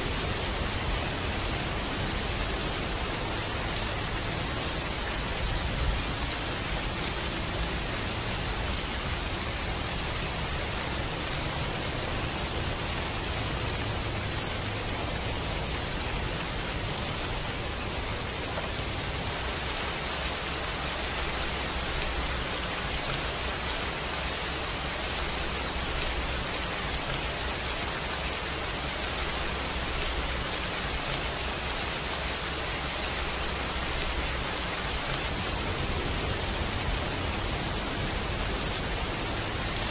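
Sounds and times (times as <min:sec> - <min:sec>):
rain hiss with low rumble: 0:00.0 - 0:39.9.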